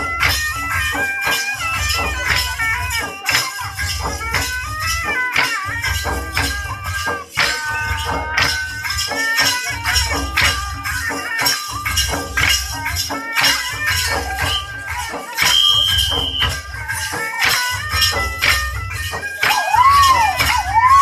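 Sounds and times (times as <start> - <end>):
folk dance music: 0.0 - 21.0.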